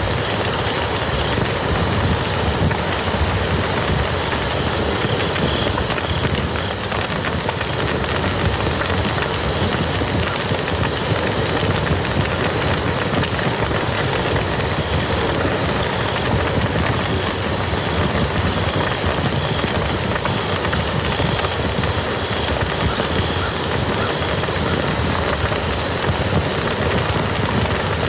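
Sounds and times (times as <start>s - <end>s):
campfire crackling: 0.0s - 28.0s
river flowing: 0.0s - 28.0s.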